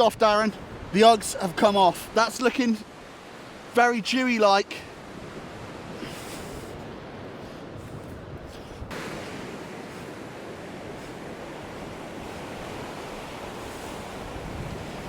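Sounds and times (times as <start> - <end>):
wind buffeting microphone: 0.0 - 2.2, 4.9 - 15.0
surf breaking on a beach: 0.0 - 15.0.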